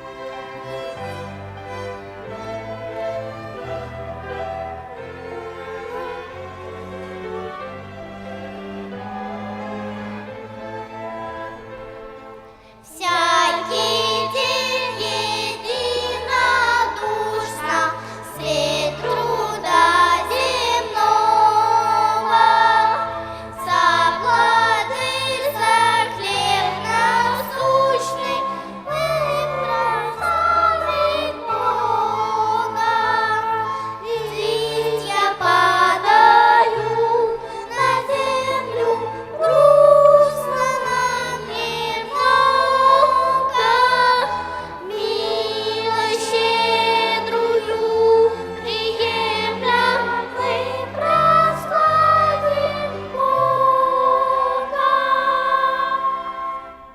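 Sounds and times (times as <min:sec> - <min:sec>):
choir singing a hymn: 0:00.0 - 0:56.9
violin ensemble: 0:00.0 - 0:56.9.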